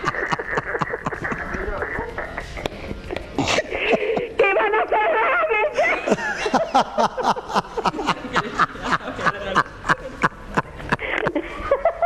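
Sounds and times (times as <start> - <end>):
person laughing breathlessly: 0.0 - 8.9, 9.8 - 12.0.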